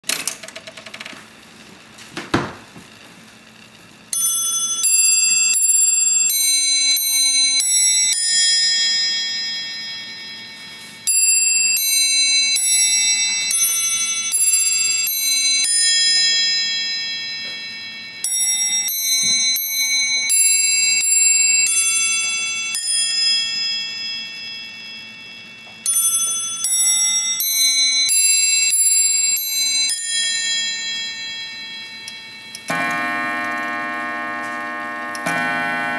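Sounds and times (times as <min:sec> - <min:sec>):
clock chime bell notes: 0:04.1 - 0:35.9.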